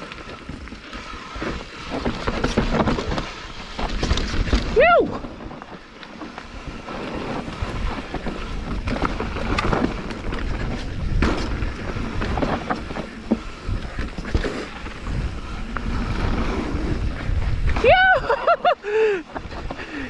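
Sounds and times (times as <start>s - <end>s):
bike rattling and clicking: 0.0s - 20.0s
tyres rumbling on dirt: 0.0s - 20.0s
wind rushing over microphone: 1.3s - 20.0s.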